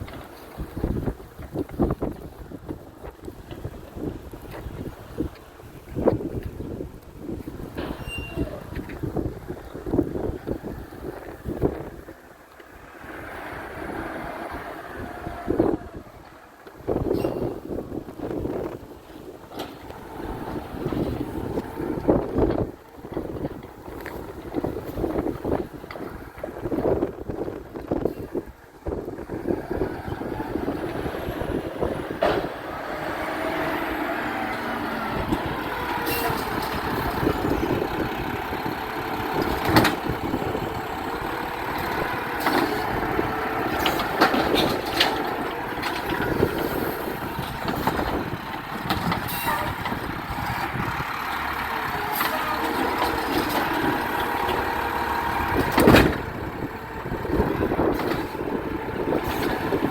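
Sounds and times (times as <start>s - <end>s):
garbage truck engine running: 0.0s - 59.9s.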